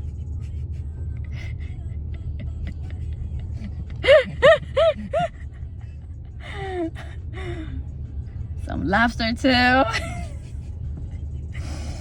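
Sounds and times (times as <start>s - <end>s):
road rumble inside car: 0.0s - 12.0s.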